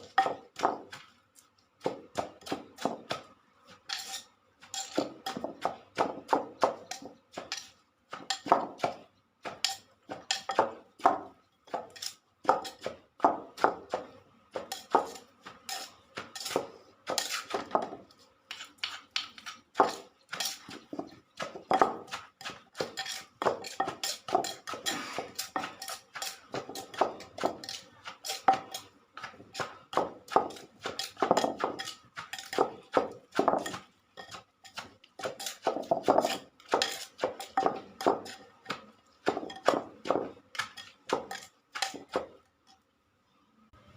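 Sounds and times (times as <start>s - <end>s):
pestle pounding in a mortar: 0.0s - 1.2s, 1.8s - 42.5s.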